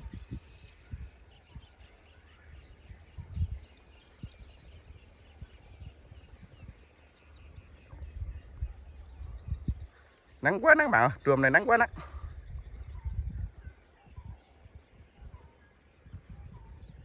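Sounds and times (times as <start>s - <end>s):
faint bird chirps: 0.0s - 17.0s
wind buffeting microphone: 0.0s - 17.0s.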